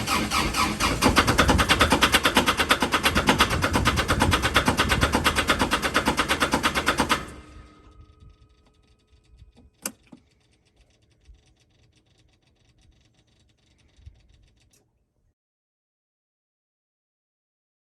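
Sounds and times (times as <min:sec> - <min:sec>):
diesel engine cranking: 0:00.0 - 0:14.8.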